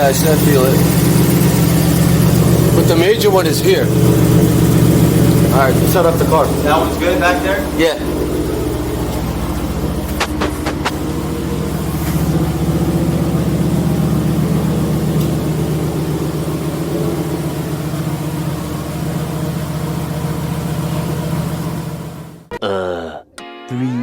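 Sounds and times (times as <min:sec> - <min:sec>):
car engine idling: 0:00.0 - 0:22.5.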